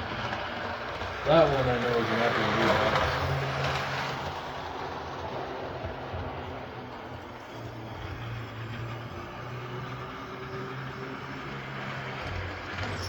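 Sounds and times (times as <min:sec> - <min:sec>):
model train motor drone: 0:00.0 - 0:13.0
wheels rolling on rails: 0:00.0 - 0:13.0.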